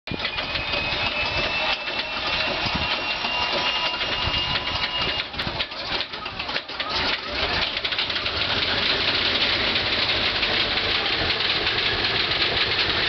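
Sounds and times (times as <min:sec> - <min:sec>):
high mechanical whine: 0:00.1 - 0:13.0
radial engine turning over: 0:00.1 - 0:13.0.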